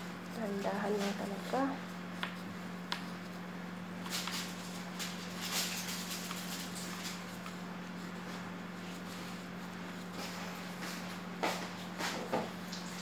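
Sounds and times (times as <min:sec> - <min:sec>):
steady low hum: 0:00.0 - 0:13.0
hands rustling dough on a board: 0:00.2 - 0:12.5.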